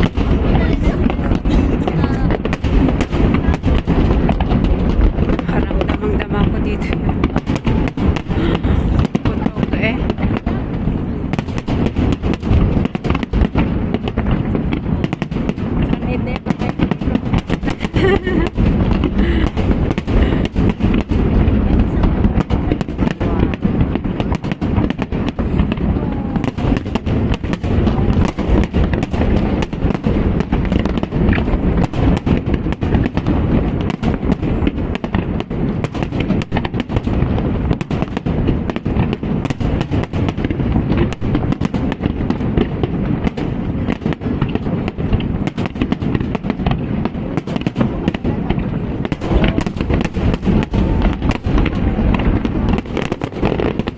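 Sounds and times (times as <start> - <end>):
low rumble: 0.0 - 45.4, 46.1 - 53.9
fireworks bangs and crackles: 0.0 - 53.9.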